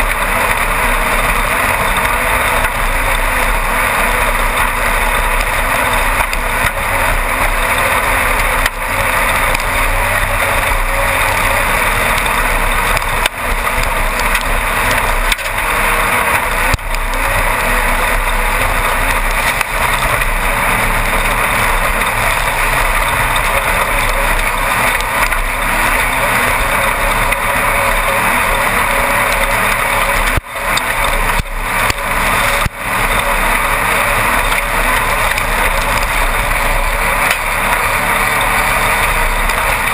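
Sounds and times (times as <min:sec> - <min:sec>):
race car engine at speed: 0:00.0 - 0:39.9
wind and chassis noise: 0:00.0 - 0:39.9.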